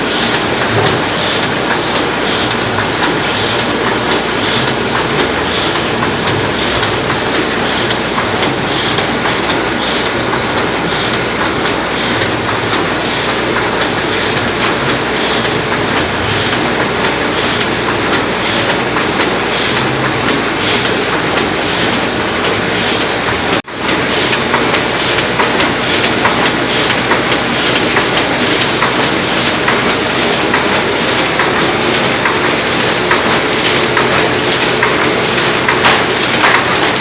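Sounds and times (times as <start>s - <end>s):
printing press clattering: 0.0s - 37.0s.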